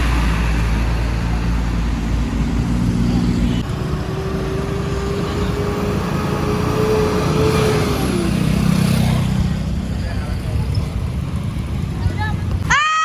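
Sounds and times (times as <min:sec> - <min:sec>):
vehicle passing by: 0:00.0 - 0:12.6.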